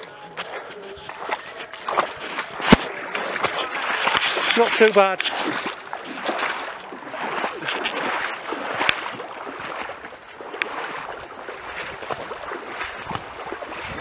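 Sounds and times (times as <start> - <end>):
wading through muddy water: 0.0 - 14.0.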